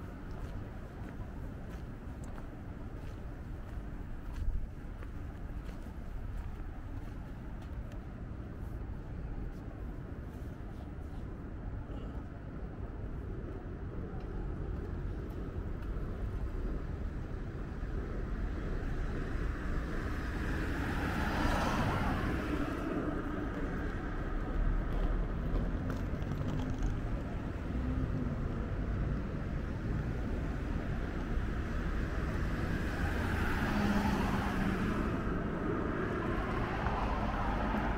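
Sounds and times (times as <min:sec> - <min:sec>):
road traffic rumble: 0:00.0 - 0:37.9.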